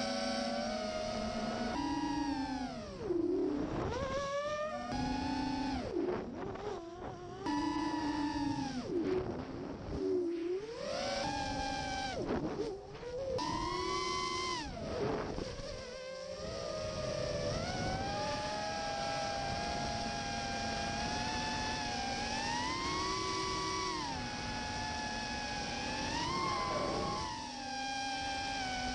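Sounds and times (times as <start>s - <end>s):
drone propellers whining: 0.0s - 28.9s.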